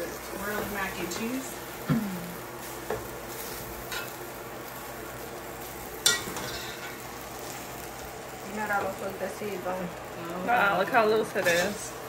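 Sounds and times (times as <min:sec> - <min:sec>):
steady hiss from hot pot: 0:00.0 - 0:12.0.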